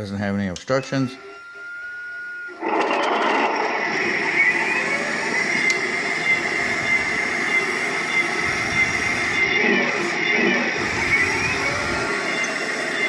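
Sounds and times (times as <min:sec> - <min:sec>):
toy tank mechanical whine: 0:01.0 - 0:13.0.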